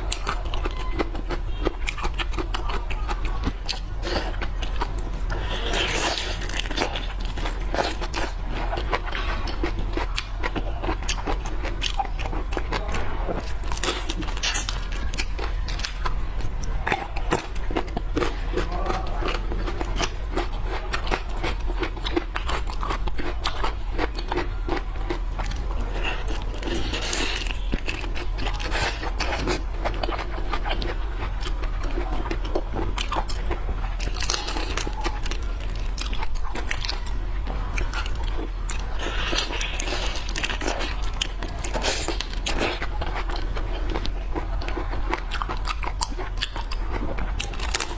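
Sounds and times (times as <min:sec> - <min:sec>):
biting and chewing seafood: 0:00.0 - 0:47.9
faint low hum: 0:00.0 - 0:47.9.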